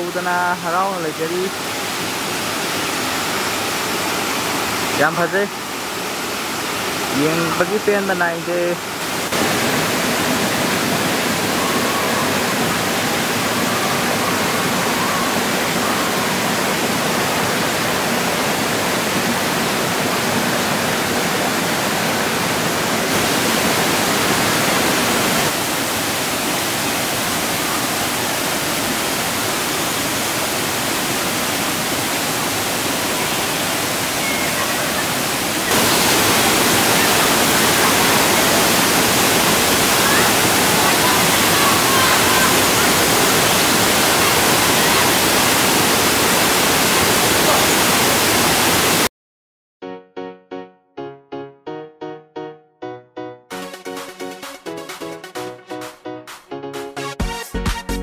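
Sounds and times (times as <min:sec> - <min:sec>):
waterfall rushing: 0:00.0 - 0:49.1.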